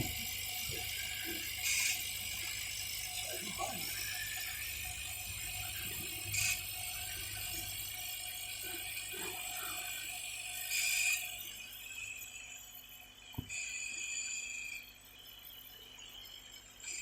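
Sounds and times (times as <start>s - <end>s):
stepper motors whirring: 0.0s - 15.4s
laser cutter humming: 0.0s - 17.0s.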